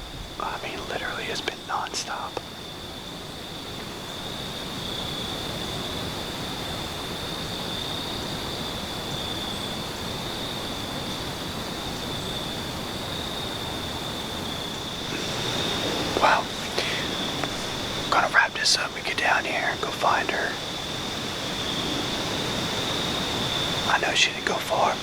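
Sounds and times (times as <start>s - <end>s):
background hiss: 0.0s - 25.0s
crickets trilling: 0.0s - 25.0s.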